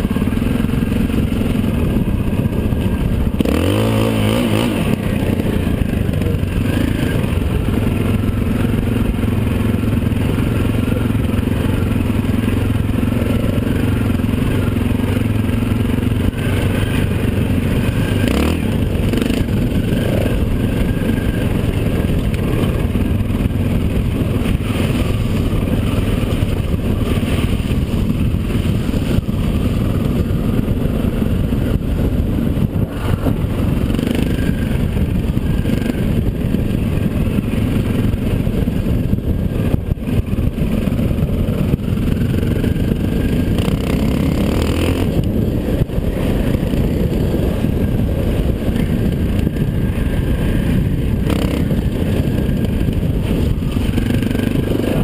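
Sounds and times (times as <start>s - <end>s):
dirt bike engine revving: 0.0s - 55.0s
wind noise: 0.0s - 55.0s.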